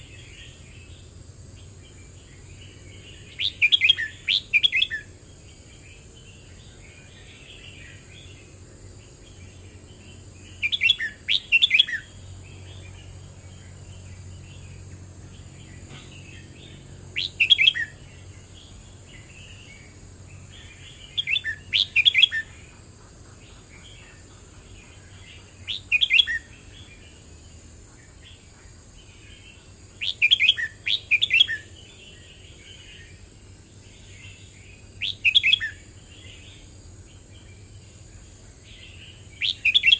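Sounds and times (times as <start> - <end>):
bird warbled song: 0.0 - 39.9.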